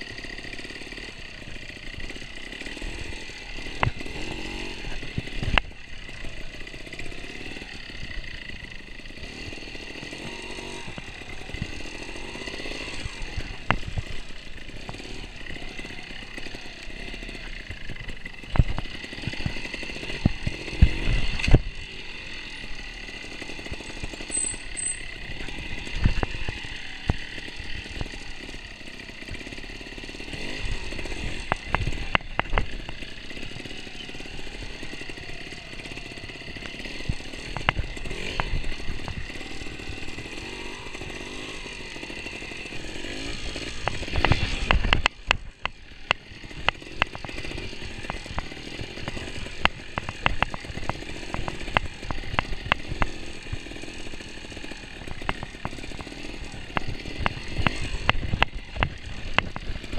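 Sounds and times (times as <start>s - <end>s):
motorcycle engine with throttle blips: 0.0s - 59.9s
knocks and clatter from bike: 0.1s - 59.9s.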